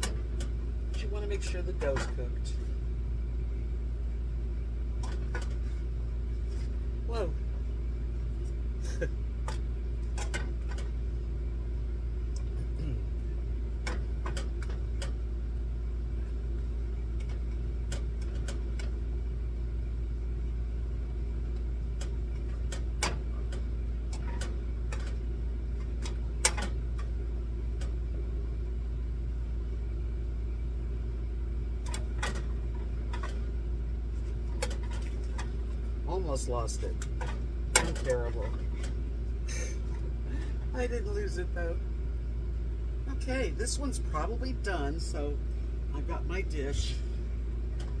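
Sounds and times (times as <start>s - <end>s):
low machine hum: 0.0s - 48.0s.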